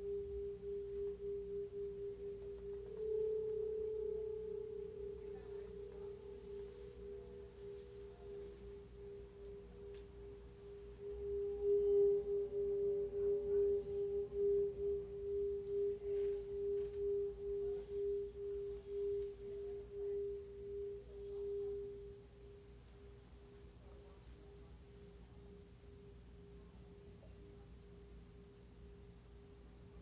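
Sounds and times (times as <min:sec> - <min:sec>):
pulsing pure ringing tone: 0:00.0 - 0:30.0.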